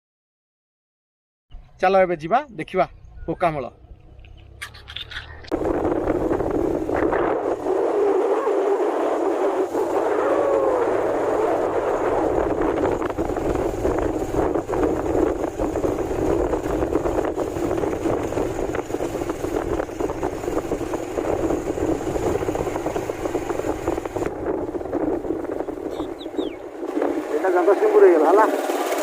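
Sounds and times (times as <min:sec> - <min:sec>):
engine and road rumble: 0:02.5 - 0:29.0
wind buffeting microphone: 0:02.9 - 0:29.0.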